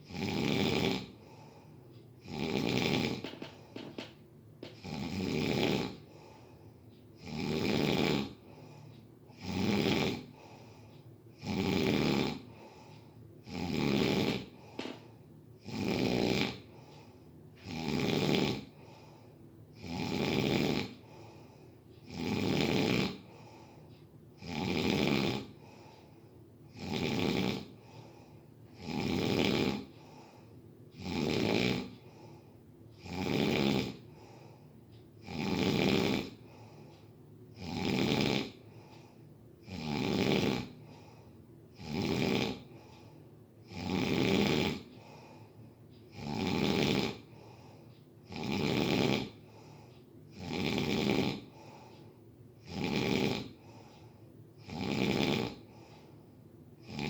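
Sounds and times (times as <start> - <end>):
person snoring: 0.0 - 6.5, 7.2 - 10.8, 11.4 - 23.8, 24.4 - 26.1, 26.7 - 30.4, 31.0 - 32.4, 33.0 - 34.6, 35.2 - 36.9, 37.5 - 45.5, 46.1 - 51.9, 52.6 - 56.1, 56.8 - 57.0.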